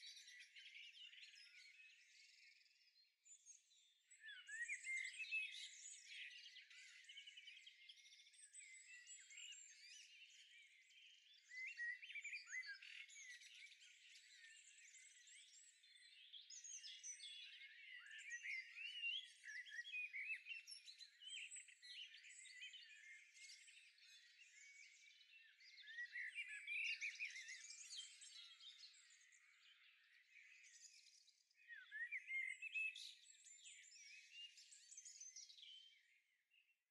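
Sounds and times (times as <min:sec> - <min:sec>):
birds chirping and warbling: 0:00.0 - 0:36.6.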